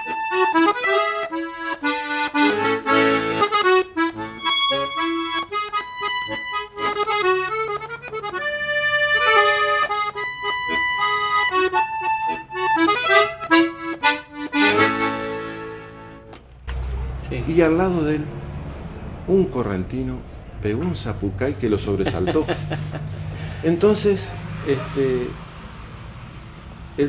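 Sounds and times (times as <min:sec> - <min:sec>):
accordion folk melody: 0:00.0 - 0:17.2, 0:20.7 - 0:26.2.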